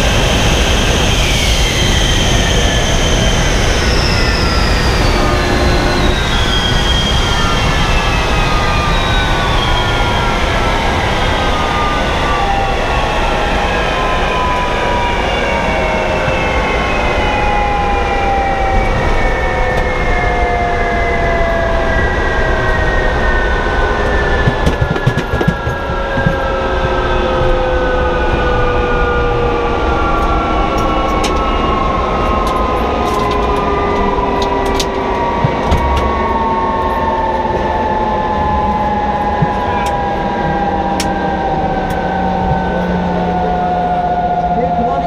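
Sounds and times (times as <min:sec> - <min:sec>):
jet engine winding down: 0:00.0 - 0:45.0.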